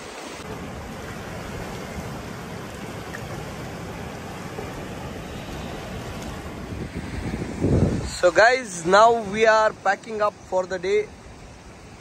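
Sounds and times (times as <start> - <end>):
sea surf washing over rocks: 0.0 - 12.0.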